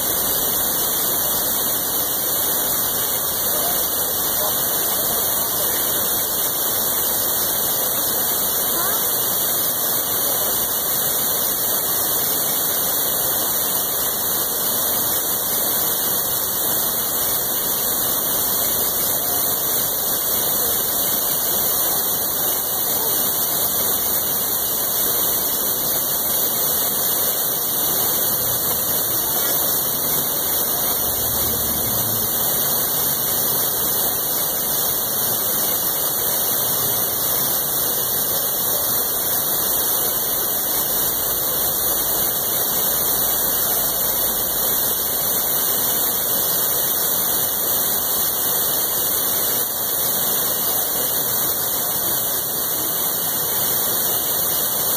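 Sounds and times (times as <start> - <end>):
water rushing over dam wall: 0.0 - 54.9.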